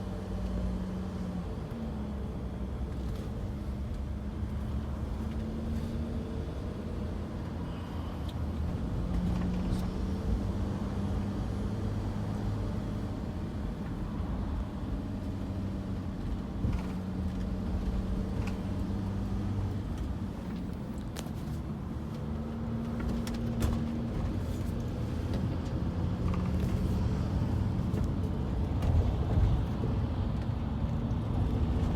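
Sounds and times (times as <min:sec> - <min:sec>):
motor vehicle engine hum: 0:00.0 - 0:31.9.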